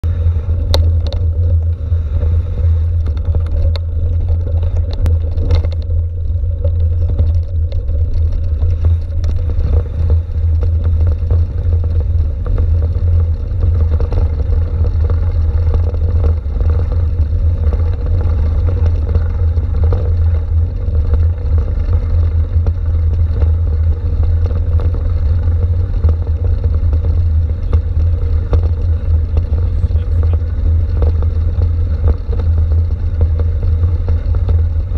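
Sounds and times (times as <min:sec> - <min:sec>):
wind and road rumble: 0:00.0 - 0:34.9.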